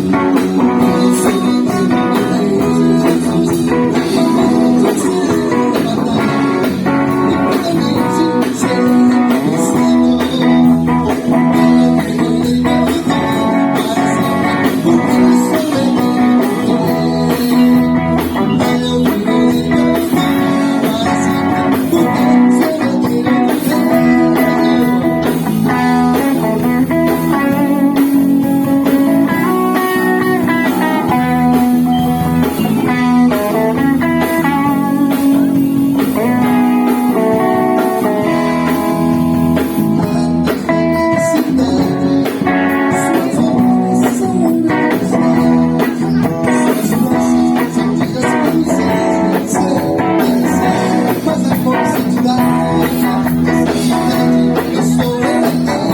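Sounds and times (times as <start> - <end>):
bass and keyboard: 0.0 - 55.9
electric guitar melody: 0.0 - 55.9.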